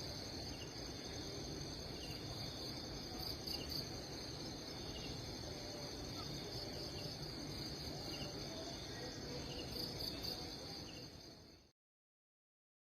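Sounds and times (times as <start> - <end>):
insects trilling: 0.0 - 11.7.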